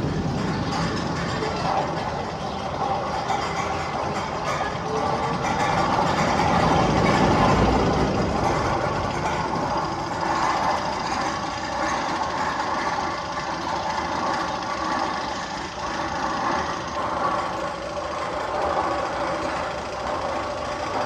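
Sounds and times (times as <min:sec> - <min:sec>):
rattling mechanical clatter: 0:00.0 - 0:21.0.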